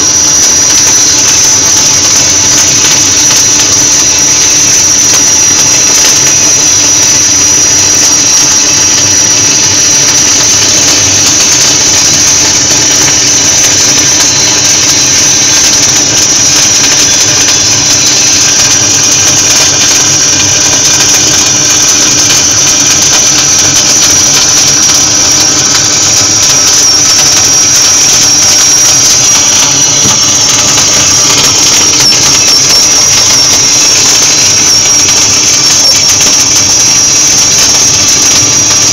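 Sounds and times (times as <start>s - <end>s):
high-pitched whine: 0.0s - 38.9s
welding arc crackle and hiss: 0.0s - 38.9s.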